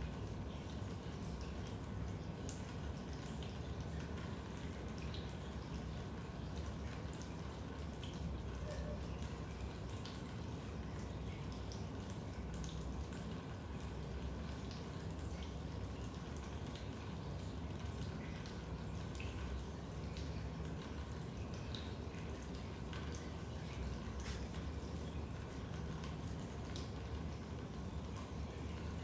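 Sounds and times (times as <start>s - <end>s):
water dripping: 0.0s - 29.0s.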